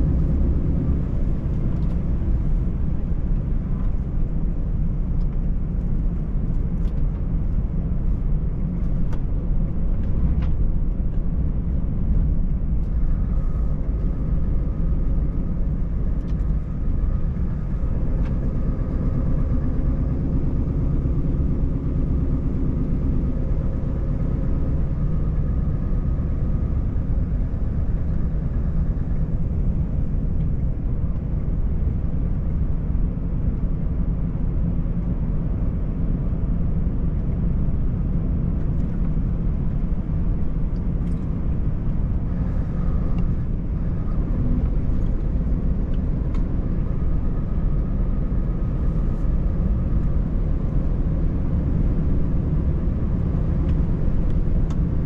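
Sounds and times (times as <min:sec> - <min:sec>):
truck cab engine rumble: 0:00.0 - 0:55.0.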